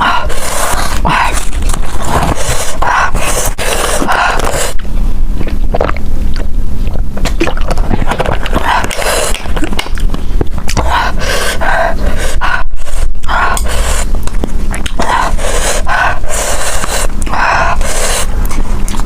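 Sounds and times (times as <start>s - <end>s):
wet chewing and mouth noises: 0.0s - 19.0s.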